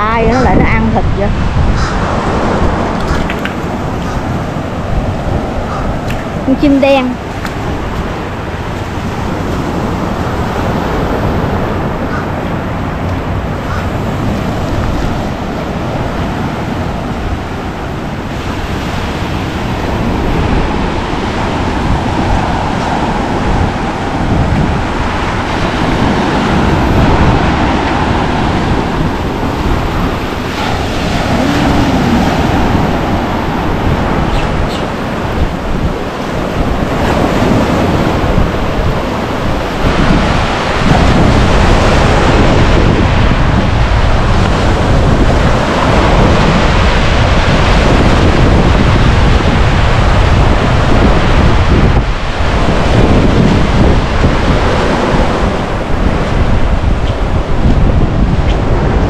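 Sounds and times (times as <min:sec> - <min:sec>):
surf breaking on shore: 0:00.0 - 0:59.0
wind buffeting microphone: 0:00.0 - 0:59.0.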